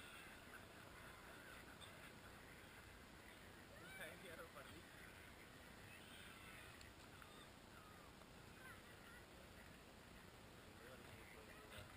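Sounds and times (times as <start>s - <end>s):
faint bird chirps: 0.0s - 9.6s
steady low hiss: 0.0s - 11.9s.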